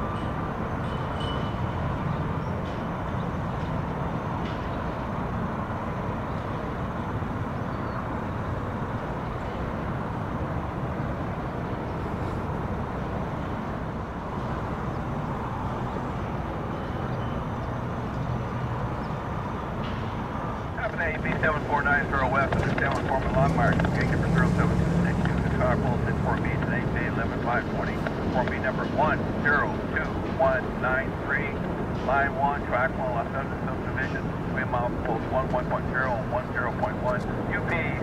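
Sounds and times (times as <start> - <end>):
outdoor background rumble: 0.0 - 38.0.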